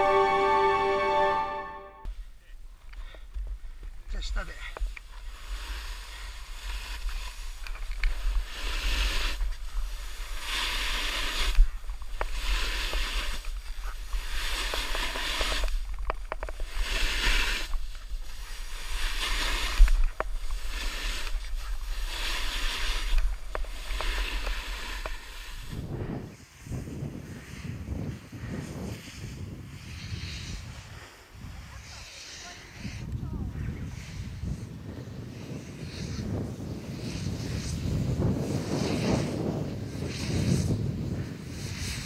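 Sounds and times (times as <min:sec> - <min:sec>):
wind rumble on microphone: 0:03.3 - 0:42.0
snowboard edge scraping snow: 0:04.3 - 0:33.0, 0:33.9 - 0:42.0.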